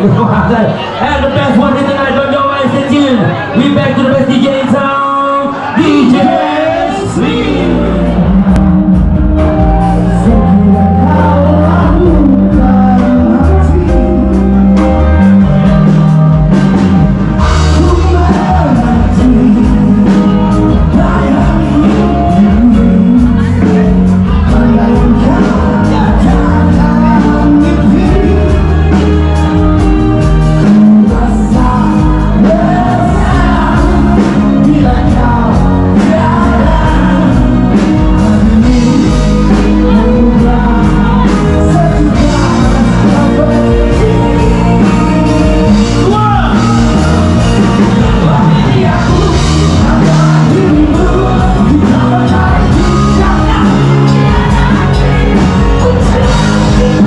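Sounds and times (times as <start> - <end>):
person singing: 3.1 - 57.0
heavy bass line: 5.6 - 57.0.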